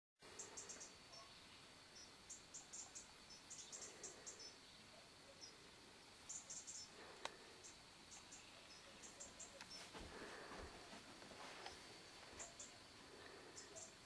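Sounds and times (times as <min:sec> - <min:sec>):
outdoor hiss: 0:00.2 - 0:14.0.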